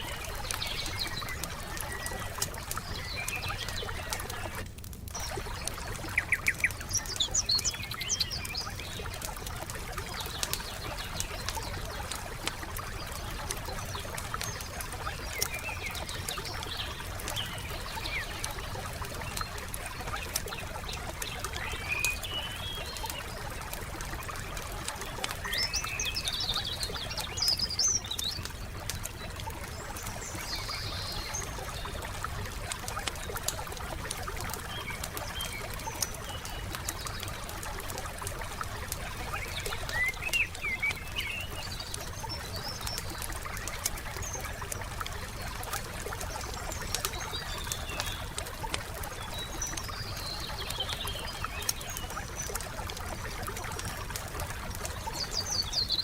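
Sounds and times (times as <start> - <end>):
campfire crackling and popping: 0.0 - 56.0
songbirds chirping: 0.0 - 56.0.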